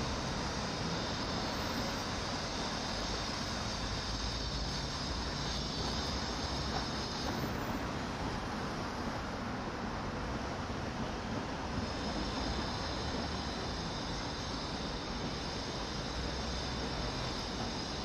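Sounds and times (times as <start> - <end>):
high hiss: 0.0 - 18.0
street traffic rumble: 0.0 - 18.0.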